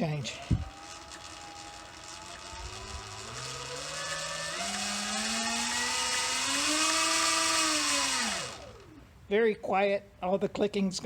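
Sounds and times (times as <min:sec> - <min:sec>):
electric motor whine: 0:00.1 - 0:09.0.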